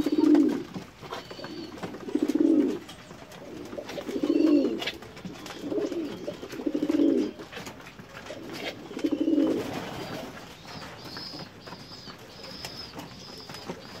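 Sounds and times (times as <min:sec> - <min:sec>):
pigeon cooing: 0:00.0 - 0:14.0.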